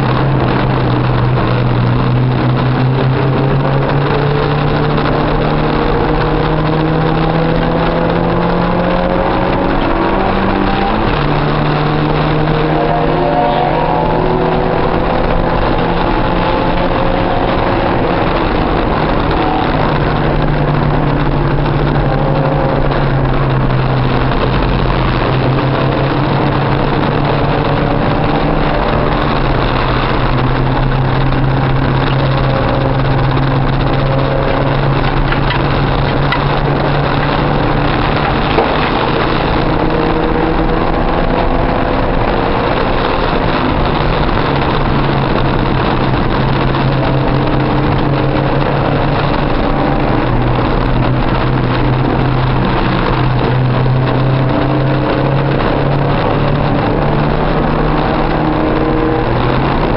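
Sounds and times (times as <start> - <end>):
racing car engine from inside: 0.0 - 59.9.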